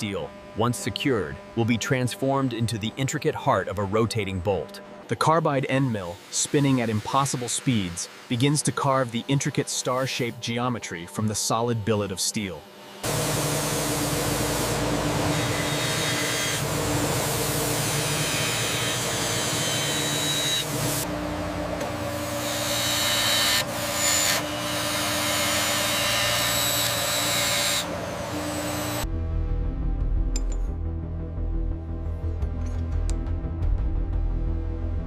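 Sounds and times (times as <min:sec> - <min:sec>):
machine hum and spindle tone: 0:00.0 - 0:29.0.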